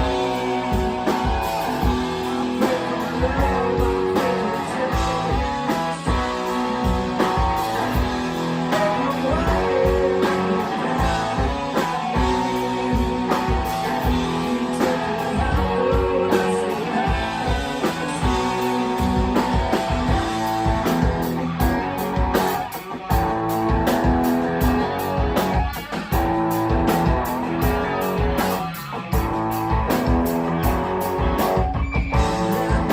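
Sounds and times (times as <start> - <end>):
electric guitar: 0.0 - 32.9
live rock band playing: 0.0 - 32.9.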